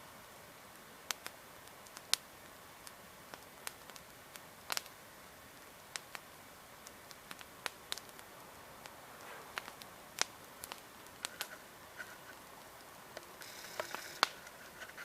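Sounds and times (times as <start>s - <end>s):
campfire crackling and popping: 0.0s - 15.0s
faint steady hiss: 0.0s - 15.0s.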